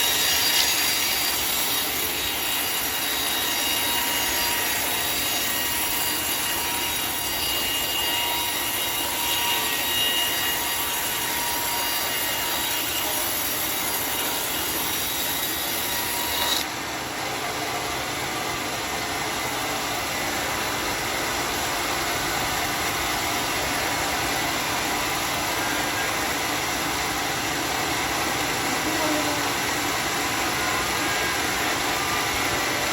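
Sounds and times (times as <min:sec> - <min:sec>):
saw cutting through log: 0:00.0 - 0:32.9.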